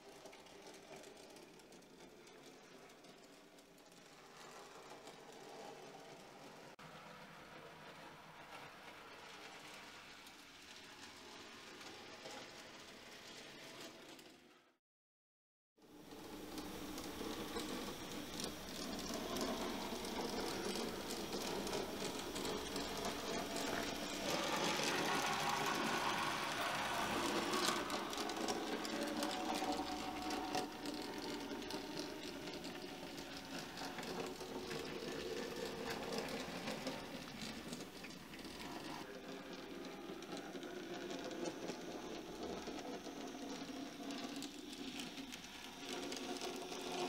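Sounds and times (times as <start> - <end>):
model train motors whirring: 0.0 - 14.7, 15.9 - 47.0
wheels clicking over track: 0.0 - 14.7, 15.9 - 47.0.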